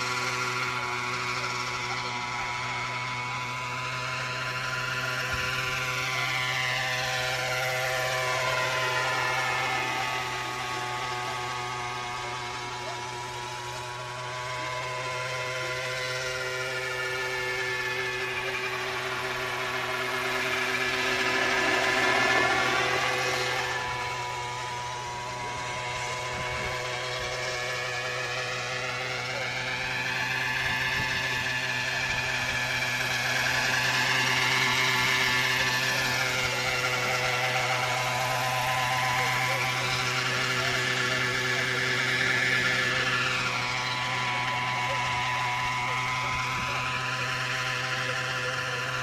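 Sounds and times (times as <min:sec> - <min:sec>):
model airplane engine running: 0:00.0 - 0:49.0.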